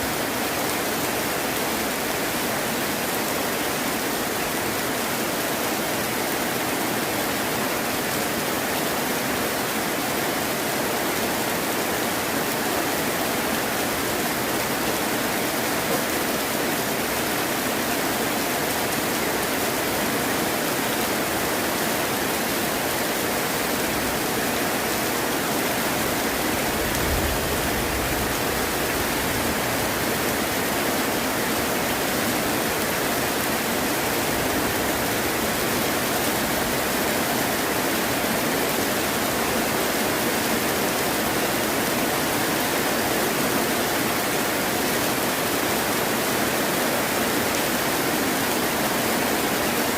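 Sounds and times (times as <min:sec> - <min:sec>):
heavy rain hissing: 0:00.0 - 0:49.9.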